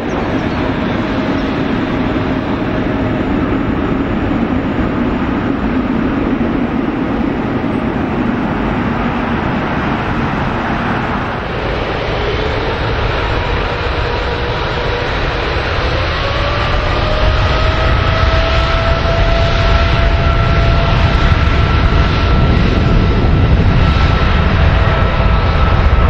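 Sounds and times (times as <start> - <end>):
jet engines rushing: 0.0 - 26.0
low hum: 0.0 - 26.0.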